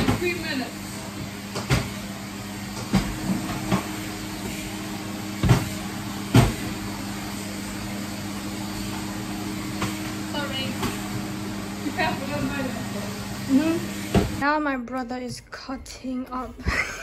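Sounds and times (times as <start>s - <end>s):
extractor fan humming: 0.0s - 15.3s.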